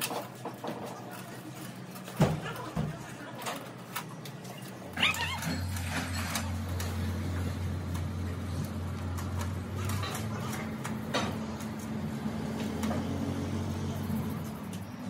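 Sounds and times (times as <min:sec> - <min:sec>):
low machine hum: 0:00.1 - 0:15.0.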